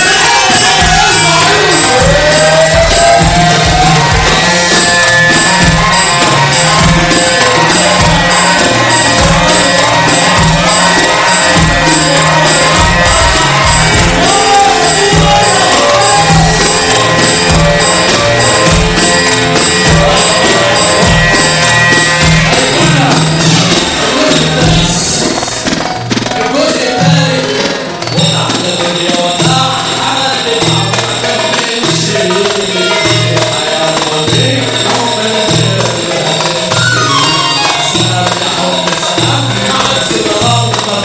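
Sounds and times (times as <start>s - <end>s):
electronic drum beat: 0.0s - 41.0s
loud song with echo effect: 0.0s - 41.0s.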